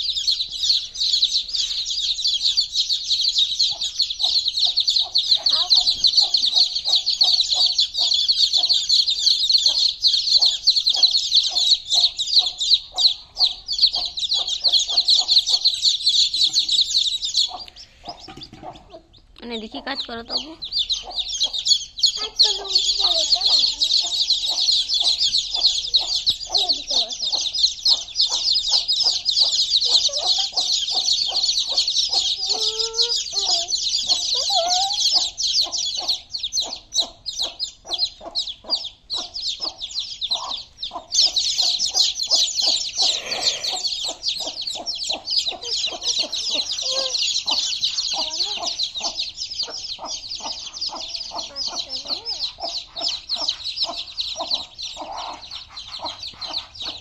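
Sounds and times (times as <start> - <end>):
baby chicks peeping: 0.0 - 57.0
low clucking calls: 3.7 - 19.2, 20.3 - 57.0.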